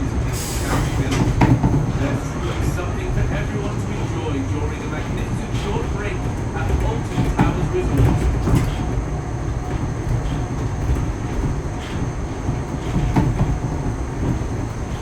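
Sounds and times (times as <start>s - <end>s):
train rumbling inside carriage: 0.0s - 15.0s
wheels clicking on track: 0.0s - 15.0s.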